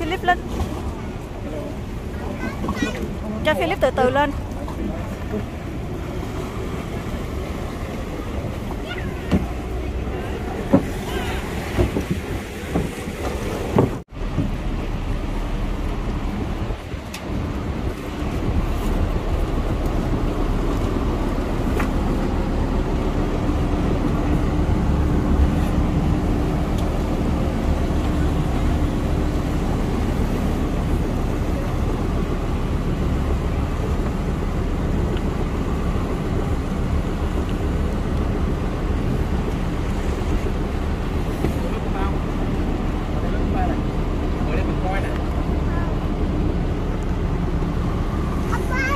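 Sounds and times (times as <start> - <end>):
wind buffeting microphone: 0.0 - 43.2
boat engine hum: 0.0 - 48.9
rushing water: 0.0 - 48.9.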